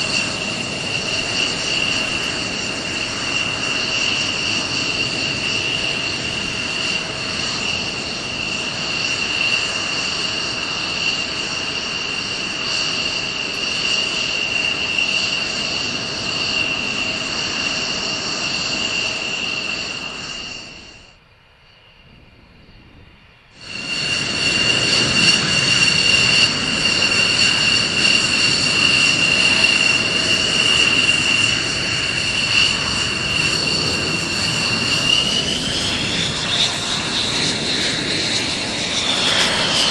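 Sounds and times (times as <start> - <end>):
jet engine whining: 0.0 - 39.9.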